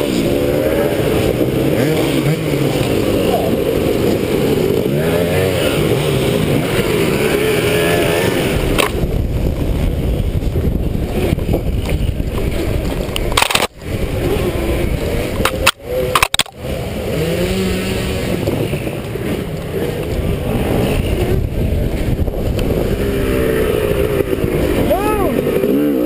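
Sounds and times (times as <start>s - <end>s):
dirt bike engine revving: 0.0s - 26.0s
electric bike rumbling on dirt: 0.0s - 26.0s.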